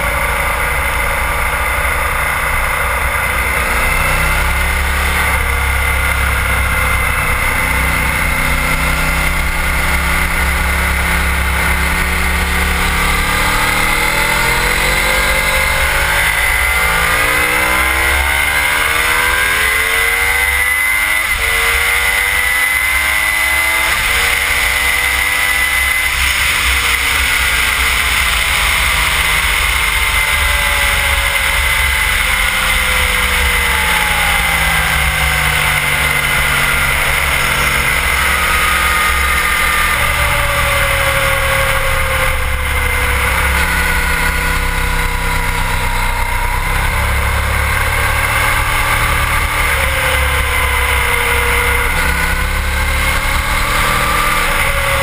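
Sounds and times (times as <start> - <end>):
motorcycle engine at speed: 0.0 - 55.0.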